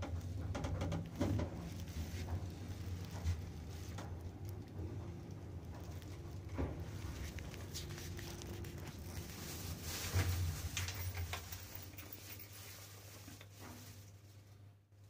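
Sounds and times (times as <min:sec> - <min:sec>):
light clicks and rattles: 0:00.0 - 0:14.0.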